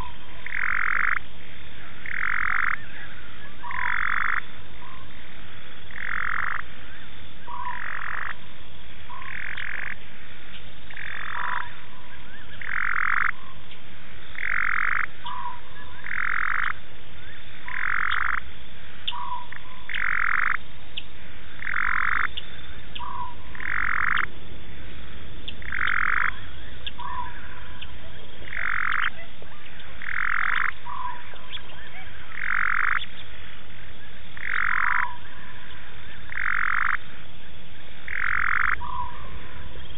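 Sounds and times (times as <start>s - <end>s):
frog calling: 0.0s - 39.9s.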